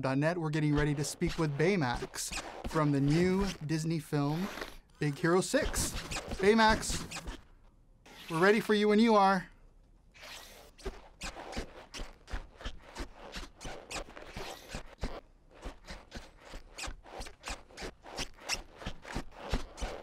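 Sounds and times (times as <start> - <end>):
squeaking padding footsteps: 0.6 - 7.5, 10.7 - 20.0
vinyl body rubbing: 0.6 - 7.5, 10.3 - 20.0.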